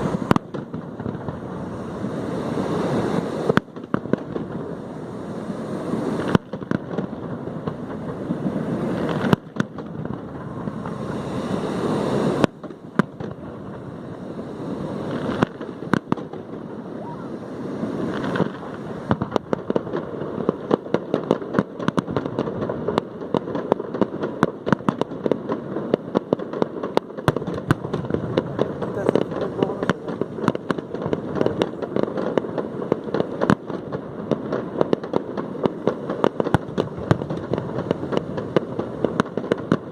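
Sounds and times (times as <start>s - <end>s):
fireworks bangs and cracks: 0.0s - 39.9s
fireworks crackling: 0.0s - 39.9s.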